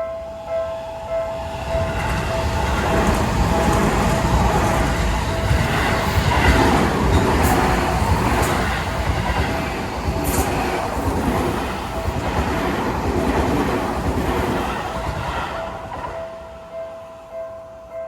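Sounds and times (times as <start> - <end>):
train wheels rumbling on rail: 0.0 - 16.8
faint crossing warning bell: 0.0 - 18.0.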